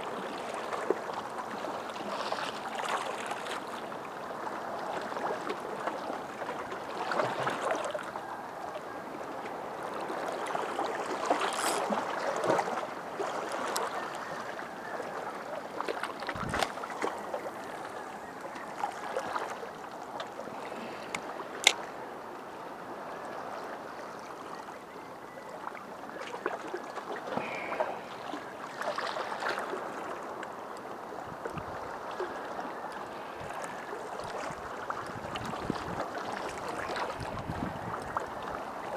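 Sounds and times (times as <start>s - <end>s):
small waves lapping against rocks: 0.0s - 38.9s.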